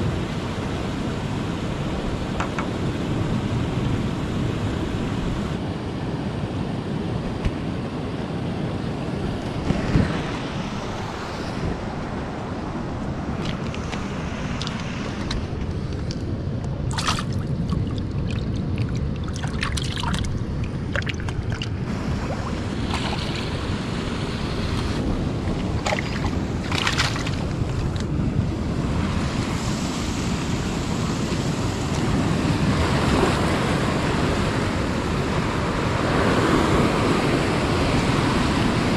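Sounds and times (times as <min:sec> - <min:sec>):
ocean surf washing on shore: 0:00.0 - 0:38.9
wind buffeting microphone: 0:06.9 - 0:38.9.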